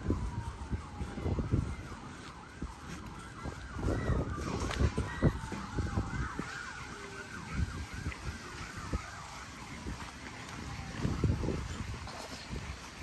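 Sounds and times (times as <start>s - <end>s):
emergency vehicle siren: 0.0s - 13.0s.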